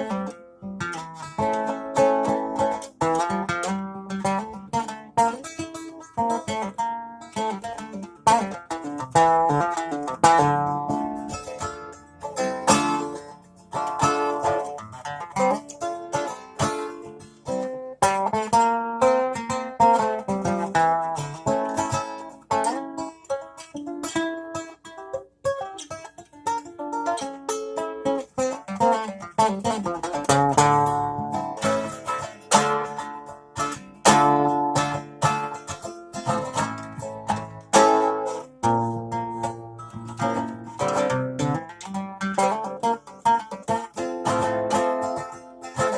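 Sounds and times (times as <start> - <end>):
plucked string instrument: 0.0 - 45.9.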